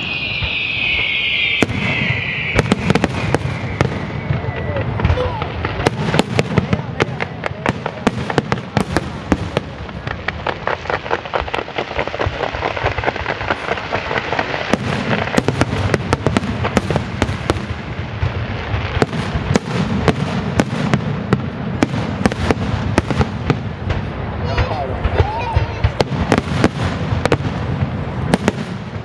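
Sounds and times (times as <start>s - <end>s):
fireworks bangs and cracks: 0.0s - 29.0s
fireworks crackling hiss: 0.0s - 29.0s.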